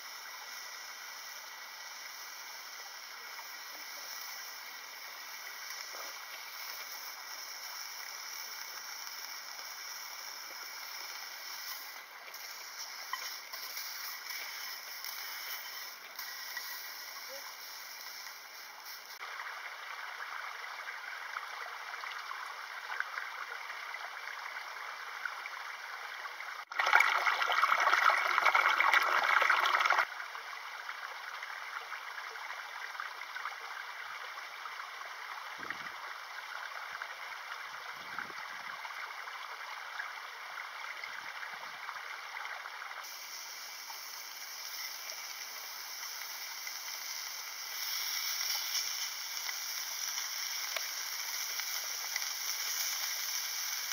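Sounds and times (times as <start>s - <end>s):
mountain stream rushing and trickling: 0.0s - 53.9s.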